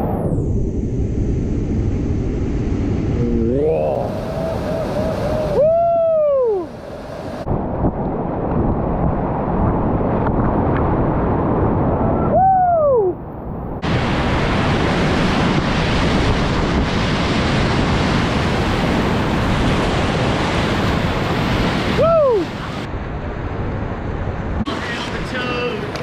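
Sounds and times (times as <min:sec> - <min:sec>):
wind buffeting microphone: 0:01.0 - 0:26.0.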